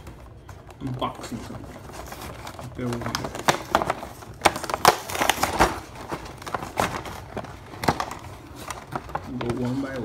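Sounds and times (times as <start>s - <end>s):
plastic and cardboard box crinkling: 0.0s - 10.0s.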